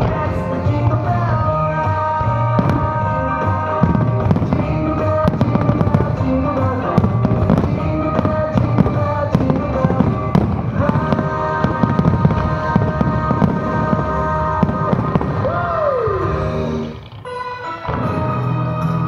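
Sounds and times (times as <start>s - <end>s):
fireworks bangs and crackles: 0.0s - 19.0s
fireworks show music: 0.0s - 19.0s.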